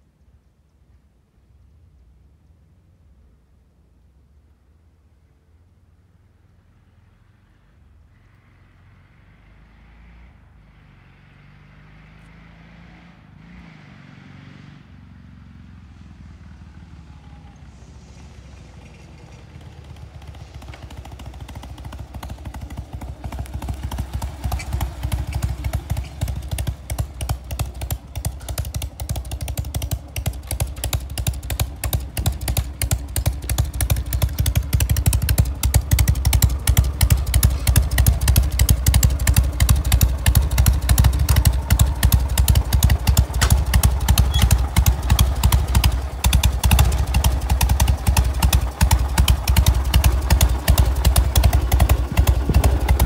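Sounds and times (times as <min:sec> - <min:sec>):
motorcycle engine passing: 0:08.1 - 0:53.0.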